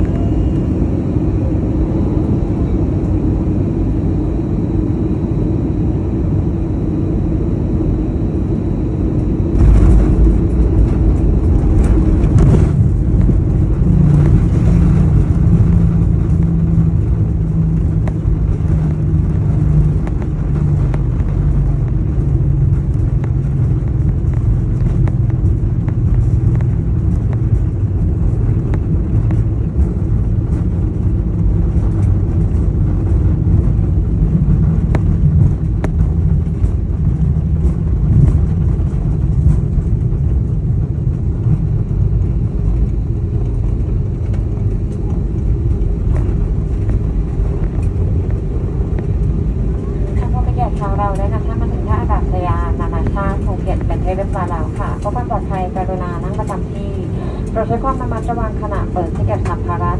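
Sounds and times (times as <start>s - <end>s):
engine roar: 0.0s - 59.9s
engines and wheels rumbling: 0.0s - 59.9s
low engine drone: 0.0s - 59.9s.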